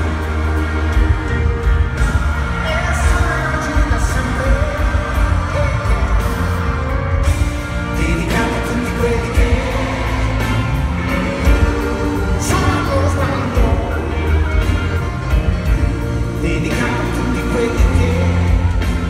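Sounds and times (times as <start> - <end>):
live pop-rock band: 0.0 - 19.0
man singing: 0.0 - 19.0.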